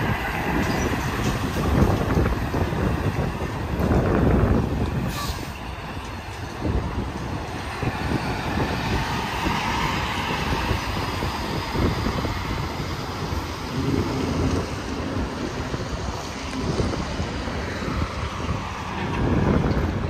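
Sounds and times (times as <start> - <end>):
highway traffic passing: 0.0 - 20.0
wind buffeting microphone: 0.0 - 20.0.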